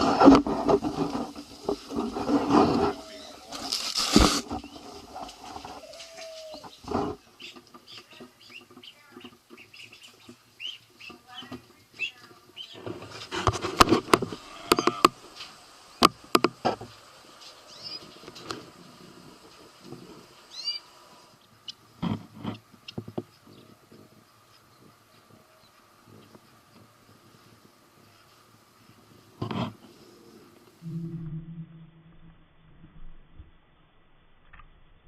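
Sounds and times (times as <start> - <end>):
birds chirping and clucking: 0.0 - 31.4.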